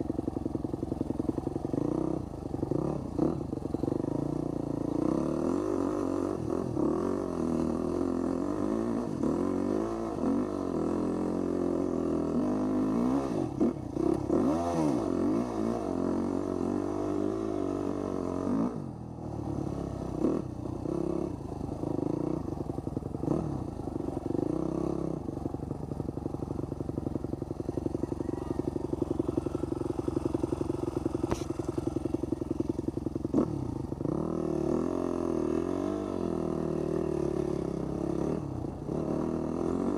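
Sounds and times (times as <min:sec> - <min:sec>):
dirt bike engine: 0:00.0 - 0:39.9.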